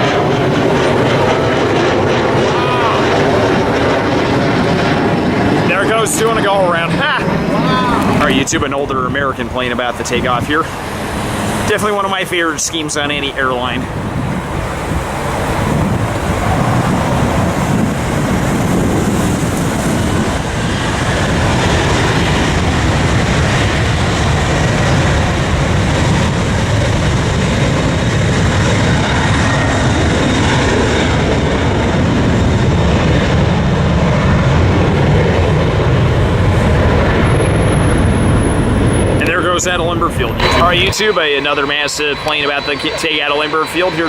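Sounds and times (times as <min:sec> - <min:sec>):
jet engine roaring at takeoff: 0:00.0 - 0:44.0.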